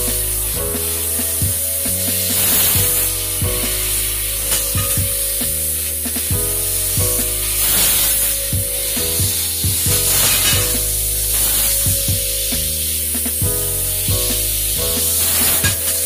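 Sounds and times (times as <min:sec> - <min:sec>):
laser cutting hiss: 0:00.0 - 0:16.0.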